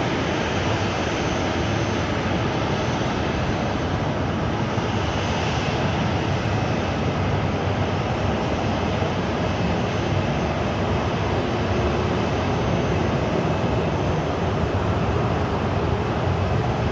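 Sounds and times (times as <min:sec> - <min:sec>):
jet engine rumble: 0:00.0 - 0:16.9.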